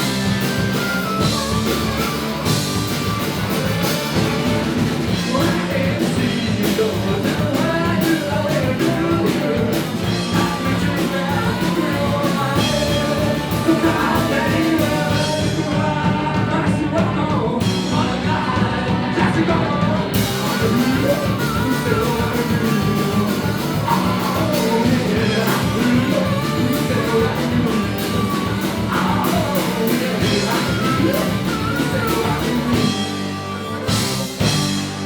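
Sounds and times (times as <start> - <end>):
live rock band playing: 0.0 - 35.0
person singing: 0.0 - 35.0.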